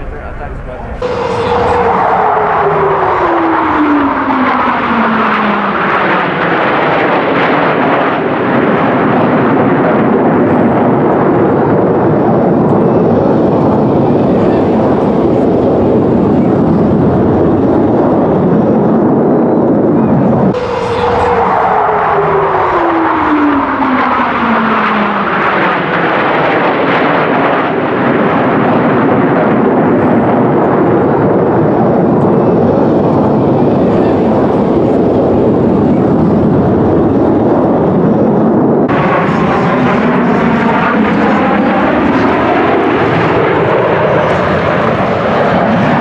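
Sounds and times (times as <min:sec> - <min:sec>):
jet aircraft flying past: 0:00.0 - 0:46.0.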